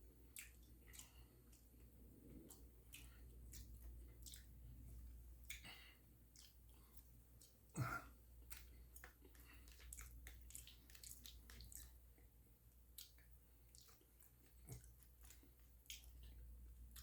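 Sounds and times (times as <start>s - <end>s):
wet chewing and lip-smacking: 0.0s - 17.0s.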